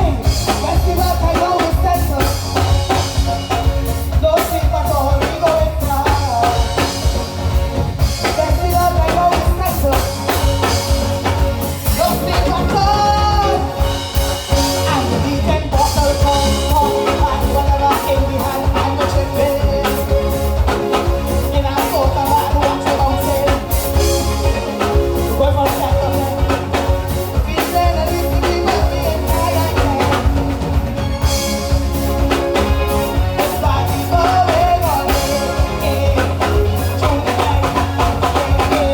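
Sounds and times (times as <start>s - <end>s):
heavy bass line: 0.0s - 38.9s
person singing: 0.0s - 38.9s
soca music over sound system: 0.0s - 38.9s
steady drum beat: 0.0s - 38.9s.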